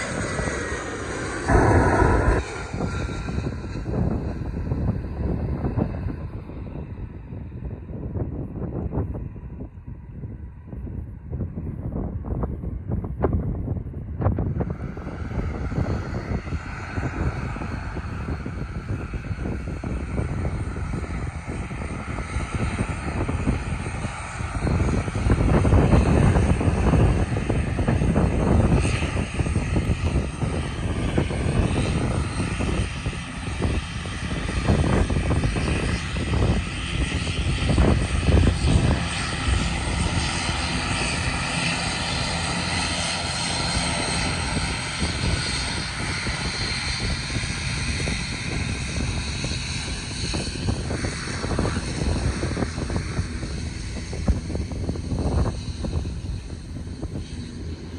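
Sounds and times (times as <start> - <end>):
turboprop engines running: 0.0 - 57.9.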